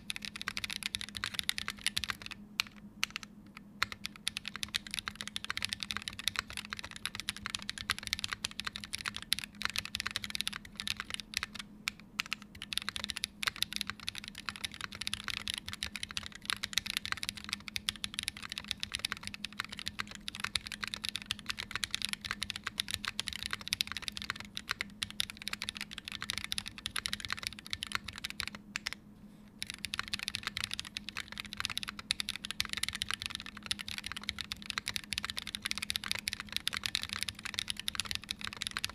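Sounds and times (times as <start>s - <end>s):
mechanical keyboard typing: 0.0s - 29.0s, 29.6s - 38.9s.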